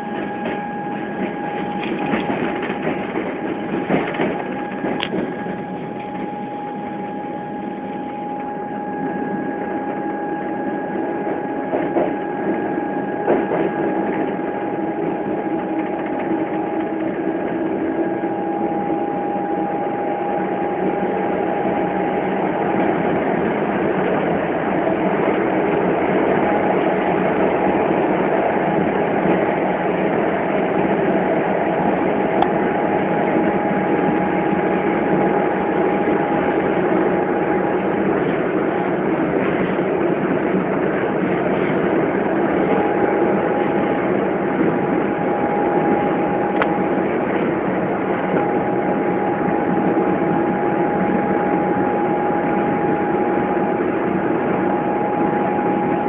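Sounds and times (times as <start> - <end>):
steady whine: 0.0 - 56.0
train carriage rumbling on track: 0.0 - 56.0.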